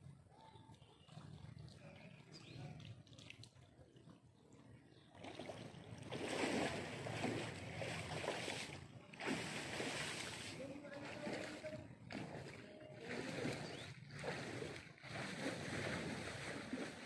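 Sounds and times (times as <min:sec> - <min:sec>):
water splashing and sloshing: 0:00.1 - 0:17.0.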